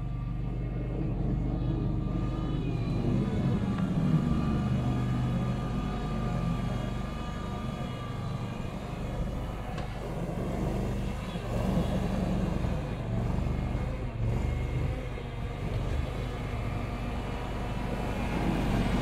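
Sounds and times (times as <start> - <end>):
wheel loader engine running: 0.0 - 19.0.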